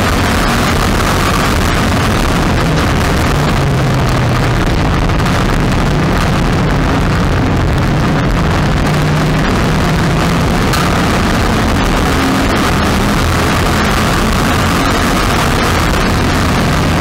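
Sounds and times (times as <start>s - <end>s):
race car engine running loud: 0.0s - 17.0s.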